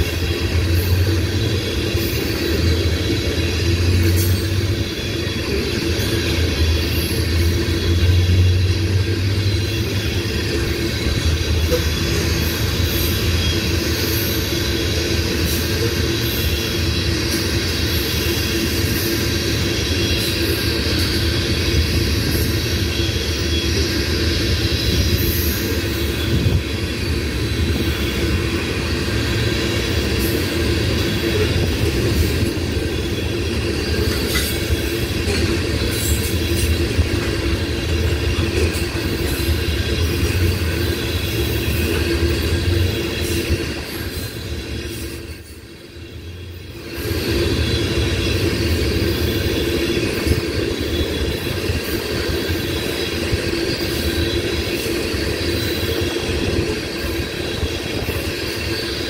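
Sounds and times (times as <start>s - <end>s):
freight train wheels rumbling: 0.0s - 59.0s
high wheel squeal: 0.0s - 59.0s.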